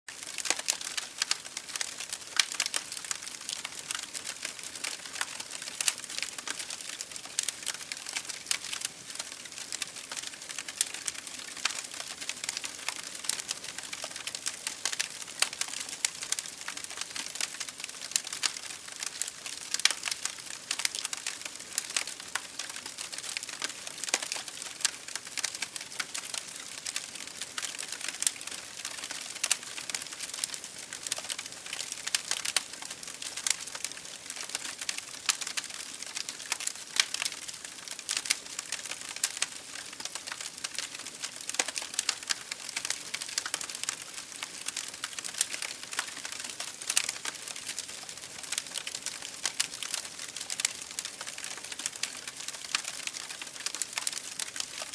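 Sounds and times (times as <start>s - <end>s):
wood fire crackling and popping: 0.1s - 54.9s.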